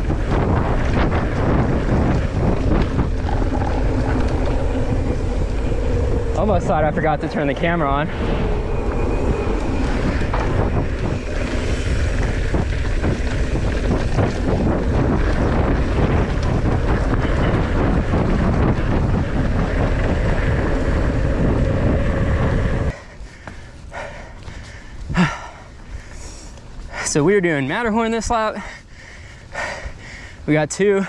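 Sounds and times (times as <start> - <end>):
tyre and trail rattle: 0.0 - 31.0
wind buffeting microphone: 0.0 - 31.0.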